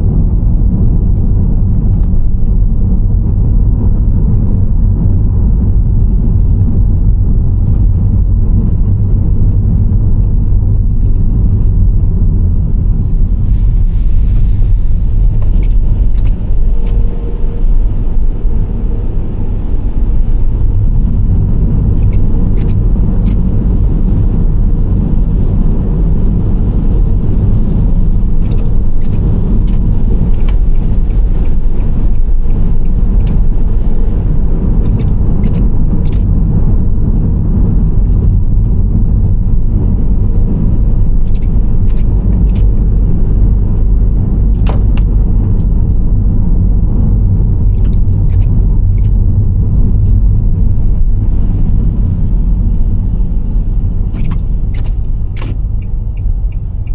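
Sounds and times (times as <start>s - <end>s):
engine and tyre rumble: 0.0s - 56.9s.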